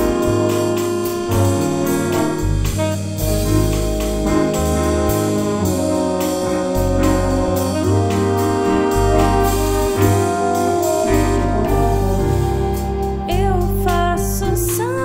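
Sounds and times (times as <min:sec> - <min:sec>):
horns playing held chords: 0:00.0 - 0:14.4
drums: 0:00.0 - 0:15.0
electric bass: 0:00.0 - 0:15.0
piano: 0:00.0 - 0:15.0.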